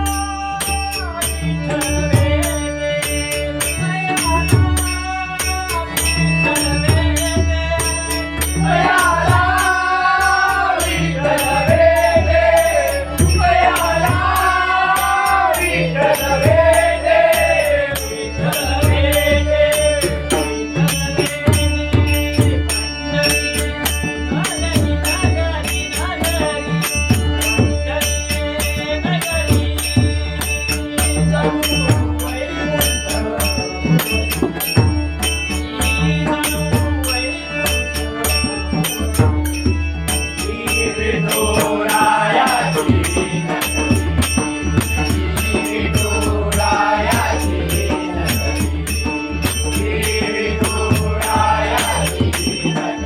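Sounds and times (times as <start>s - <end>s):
jingling percussion: 0.0s - 53.0s.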